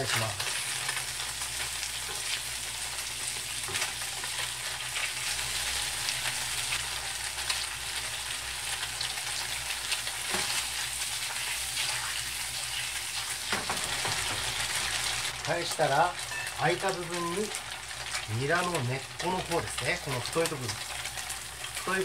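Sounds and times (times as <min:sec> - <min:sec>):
tofu sizzling in frying pan: 0:00.0 - 0:22.0.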